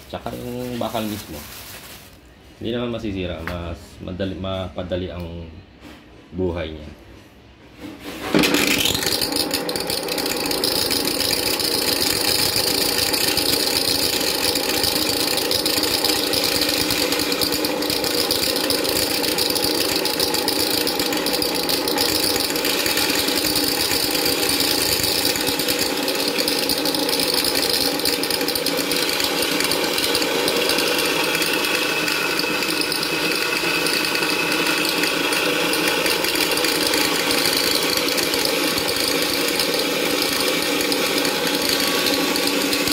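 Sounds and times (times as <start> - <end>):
electric grinder motor whine: 8.3 - 42.9.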